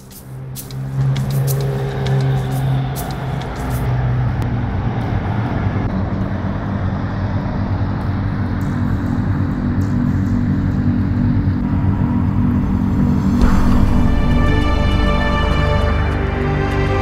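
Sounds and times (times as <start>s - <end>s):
road traffic passing: 0.0s - 9.6s, 11.3s - 17.0s.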